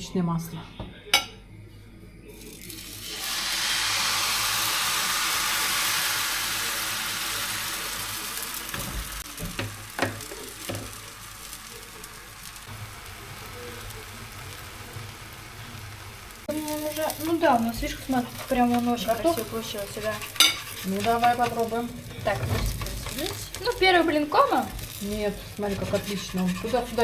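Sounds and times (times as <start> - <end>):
pancake sizzling in frying pan: 2.4 - 27.0.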